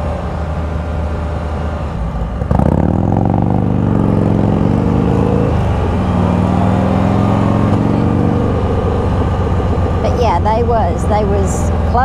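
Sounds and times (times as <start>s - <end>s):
engine accelerating: 0.0s - 12.0s.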